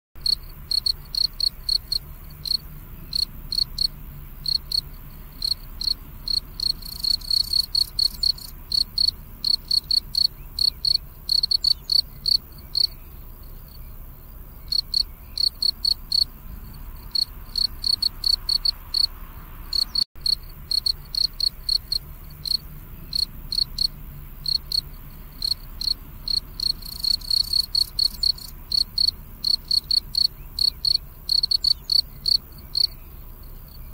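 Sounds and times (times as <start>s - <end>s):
cricket chirping: 0.2s - 33.9s.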